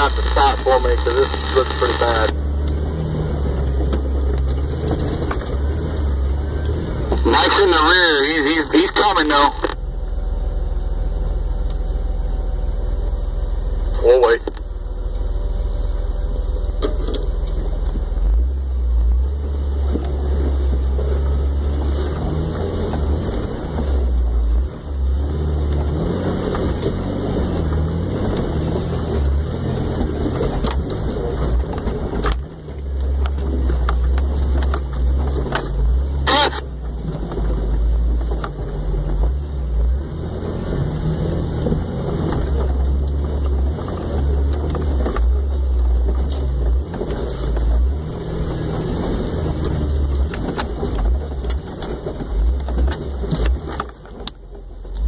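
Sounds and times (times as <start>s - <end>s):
low engine rumble: 0.0s - 55.0s.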